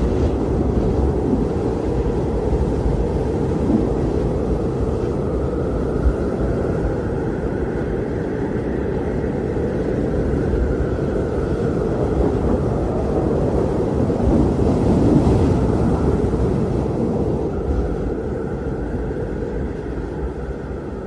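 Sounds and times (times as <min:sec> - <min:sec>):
blizzard wind blowing: 0:00.0 - 0:21.0.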